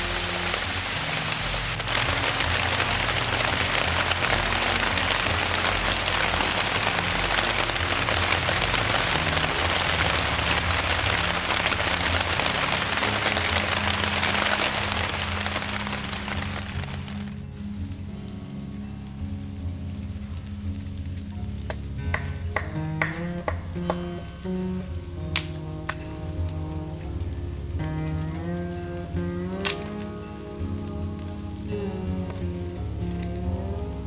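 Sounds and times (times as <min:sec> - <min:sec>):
soft background music: 0:00.0 - 0:34.0
steady rain falling: 0:00.0 - 0:34.0.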